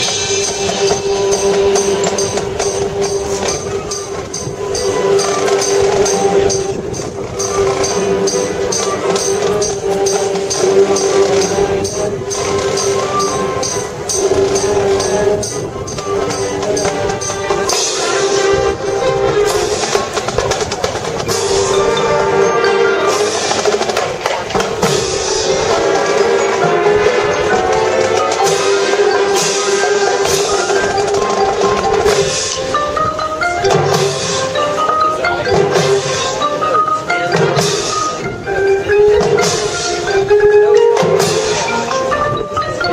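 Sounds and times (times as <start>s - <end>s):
marching band playing: 0.0s - 42.9s.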